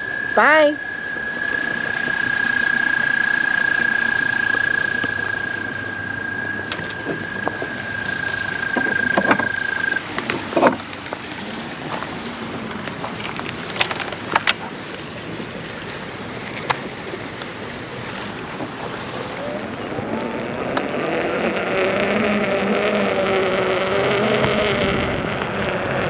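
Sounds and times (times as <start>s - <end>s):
rising motor whine: 0.0s - 26.0s
steady high whine: 0.0s - 26.0s
wind and road noise: 0.0s - 26.0s.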